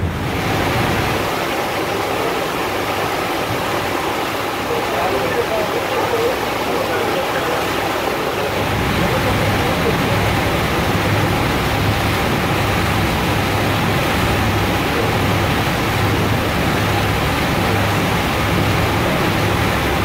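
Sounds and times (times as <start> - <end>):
low engine drone: 0.0 - 20.0
wind and water rushing: 0.0 - 20.0.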